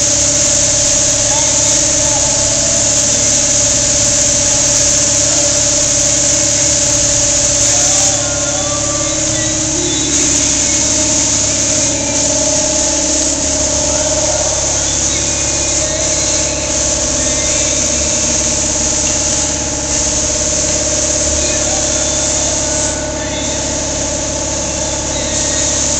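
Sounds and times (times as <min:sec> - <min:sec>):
compressed air hissing: 0:00.0 - 0:25.9
machine hum: 0:00.0 - 0:25.9.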